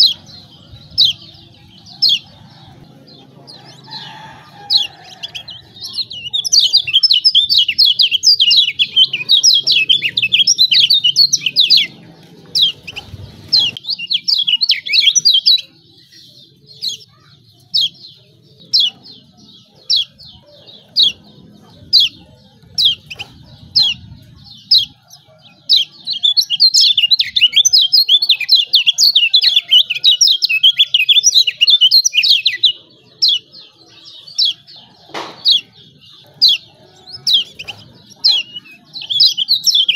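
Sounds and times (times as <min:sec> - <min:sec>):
white-eyes chattering calls: 0:00.0 - 0:39.9.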